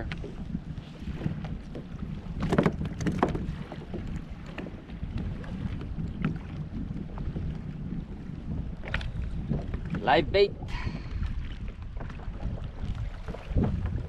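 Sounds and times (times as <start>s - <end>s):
water lapping against hull: 0.0s - 14.0s
wind on microphone: 0.0s - 14.0s.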